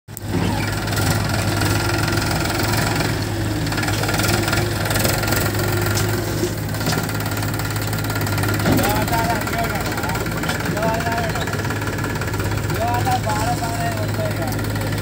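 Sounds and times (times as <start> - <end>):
tractor diesel engine running: 0.1 - 15.0.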